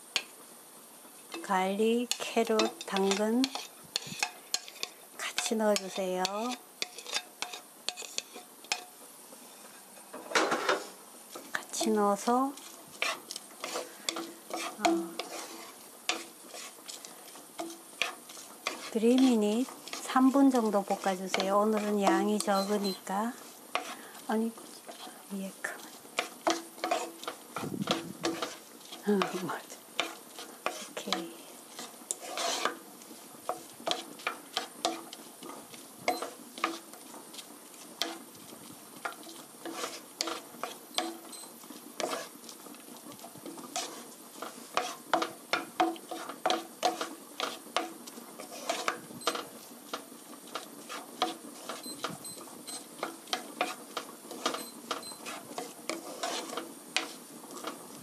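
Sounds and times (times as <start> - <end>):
vegetables sizzling: 0.0 - 58.0
wooden spatula scraping a pan: 1.3 - 58.0.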